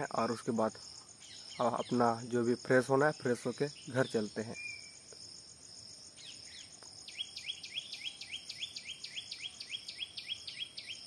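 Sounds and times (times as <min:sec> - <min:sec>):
bird chirping: 0:00.0 - 0:11.0
insects droning: 0:00.0 - 0:11.0.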